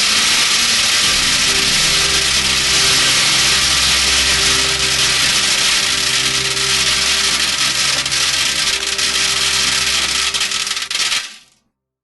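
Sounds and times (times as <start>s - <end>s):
metal pellets pouring onto tin can: 0.0s - 11.5s.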